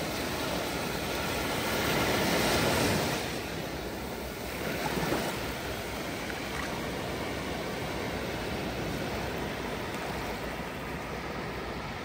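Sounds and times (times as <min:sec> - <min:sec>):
small waves washing over sand: 0:00.0 - 0:12.0.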